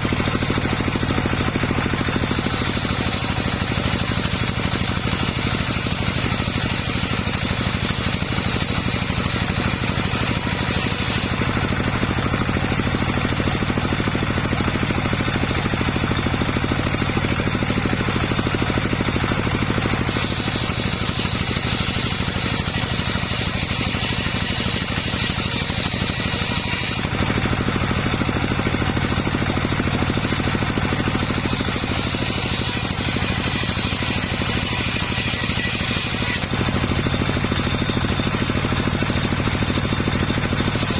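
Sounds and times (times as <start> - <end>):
circular saw cutting wood: 0.0 - 40.9.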